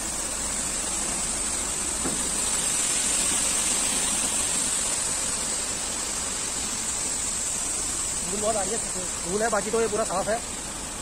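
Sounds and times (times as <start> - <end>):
grain pouring onto concrete: 0.0 - 10.5.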